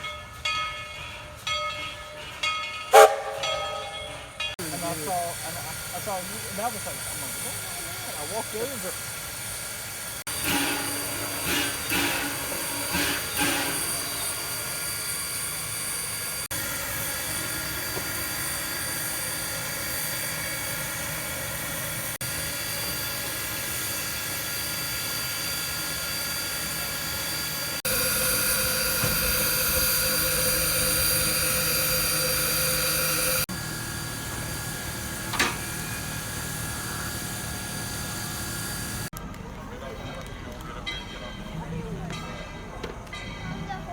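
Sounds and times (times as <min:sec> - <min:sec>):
steam locomotive hissing: 0:02.2 - 0:39.1.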